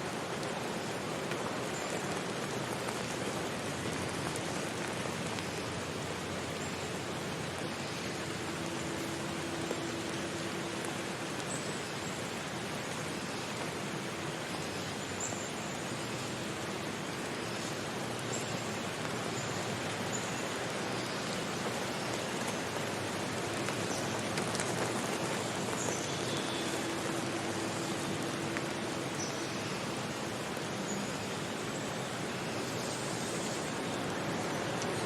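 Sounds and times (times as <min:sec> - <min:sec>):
rushing water hiss: 0:00.0 - 0:35.0.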